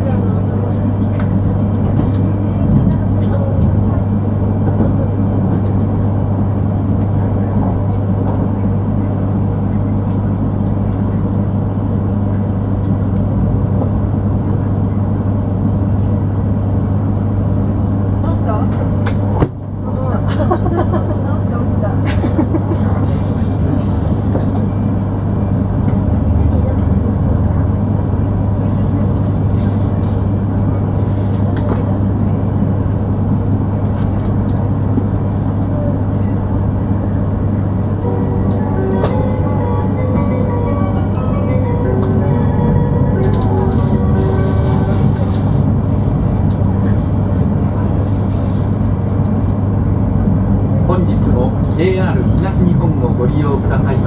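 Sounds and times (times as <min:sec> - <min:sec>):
train interior hum and rumble: 0:00.0 - 0:54.0.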